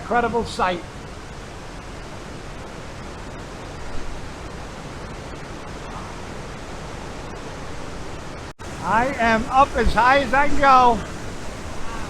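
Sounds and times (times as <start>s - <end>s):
waterfall rushing: 0.9s - 12.0s.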